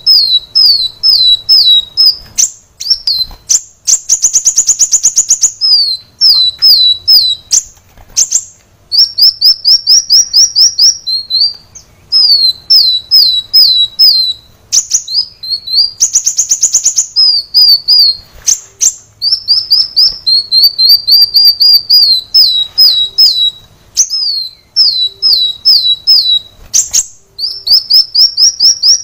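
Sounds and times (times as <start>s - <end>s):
bird singing trills: 0.0s - 29.0s.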